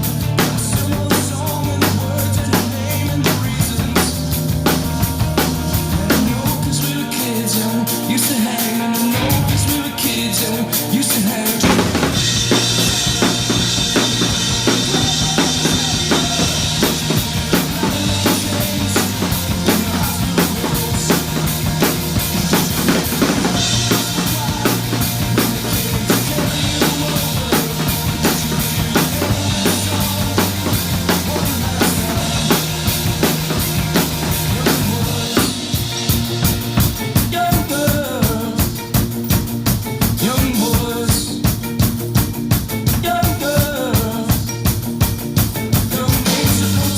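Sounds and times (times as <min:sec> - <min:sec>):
drum kit playing: 0:00.0 - 0:46.9
punk rock song recording: 0:00.0 - 0:46.9.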